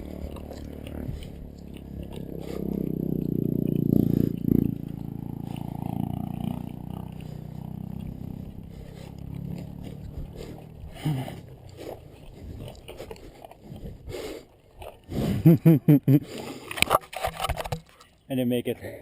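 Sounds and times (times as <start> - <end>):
motor engine running: 0.0 - 15.6.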